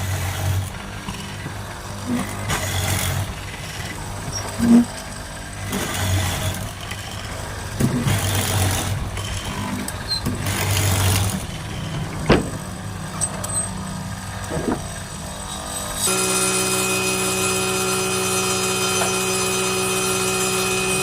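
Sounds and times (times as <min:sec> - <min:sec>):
power tool running: 0:00.0 - 0:21.0.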